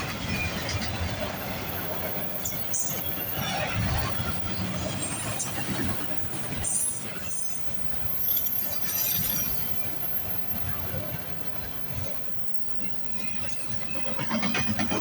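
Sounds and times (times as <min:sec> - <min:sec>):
freight cars rolling on rails: 0:00.0 - 0:15.0.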